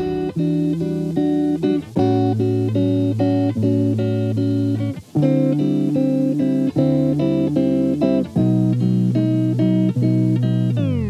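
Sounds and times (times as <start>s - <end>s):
held bass line: 0.0s - 11.0s
plucked guitar chords: 0.0s - 11.0s.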